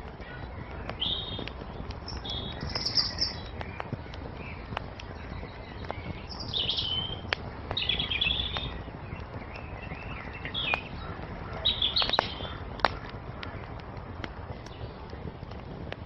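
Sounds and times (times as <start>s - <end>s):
songbirds chirping: 0.0s - 16.0s
wood fire crackling: 0.0s - 16.0s.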